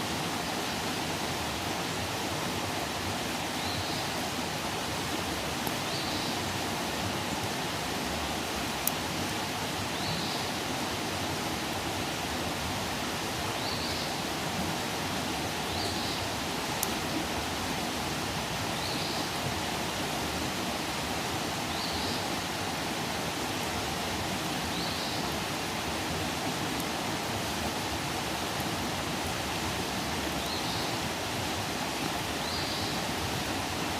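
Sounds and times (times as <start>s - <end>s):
campfire hissing: 0.0s - 33.9s.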